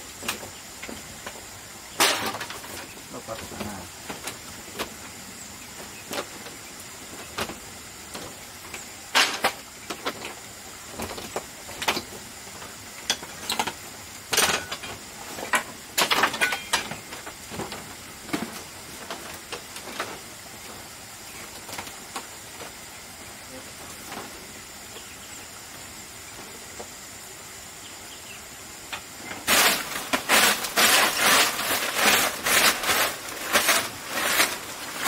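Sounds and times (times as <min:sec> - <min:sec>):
bamboo knocking and scraping: 0:00.1 - 0:22.8, 0:28.9 - 0:35.0.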